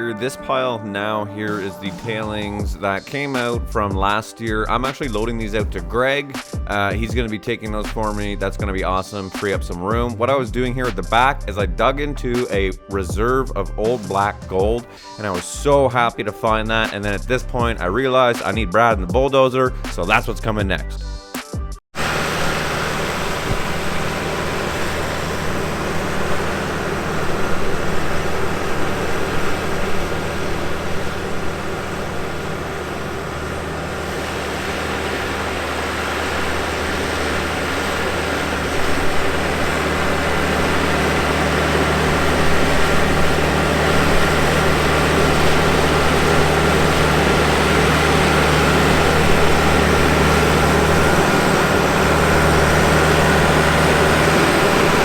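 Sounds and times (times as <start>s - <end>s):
dozer diesel engine running: 0.0s - 21.3s, 22.0s - 55.0s.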